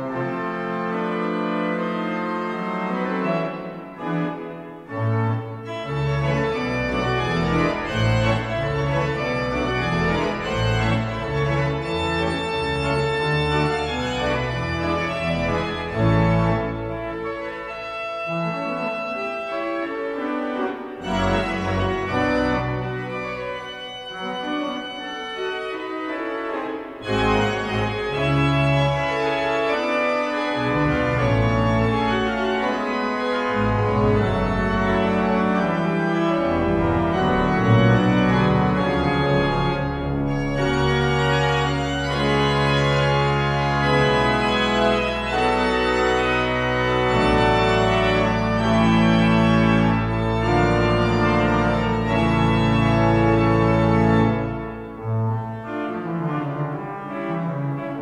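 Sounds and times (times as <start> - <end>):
deep organ bass notes: 0.0 - 57.9
church organ chords: 0.0 - 58.0.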